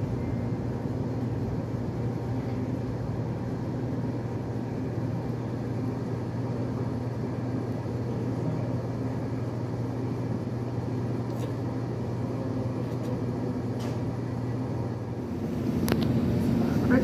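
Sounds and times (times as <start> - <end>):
low mechanical hum: 0.0 - 17.0
outdoor city noise: 0.0 - 17.0.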